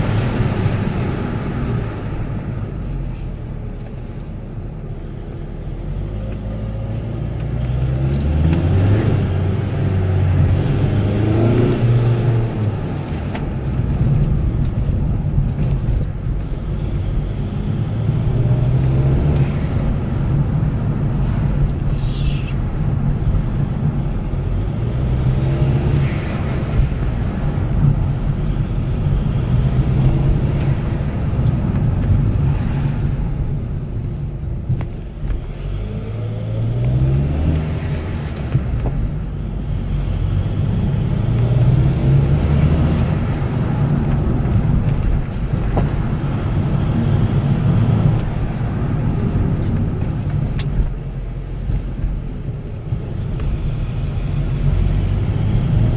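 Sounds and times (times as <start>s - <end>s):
diesel car engine accelerating: 0.0s - 55.9s.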